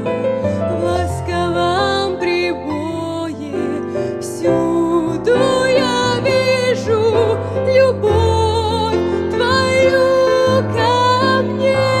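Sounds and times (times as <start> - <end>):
digital piano chords: 0.0 - 12.0
woman singing with vibrato: 0.7 - 12.0.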